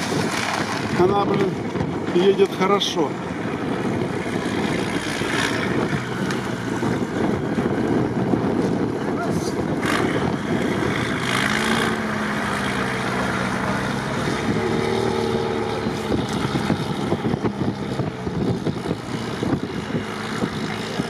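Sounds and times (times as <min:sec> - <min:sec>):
truck engine under load: 0:00.0 - 0:21.0.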